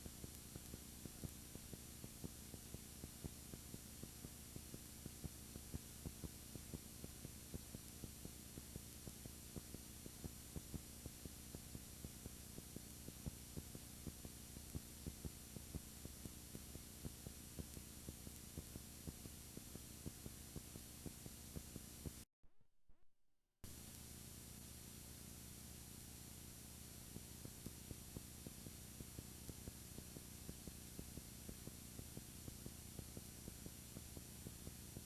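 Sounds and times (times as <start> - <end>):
electrical hum and hiss: 0.0 - 22.2, 23.7 - 35.0.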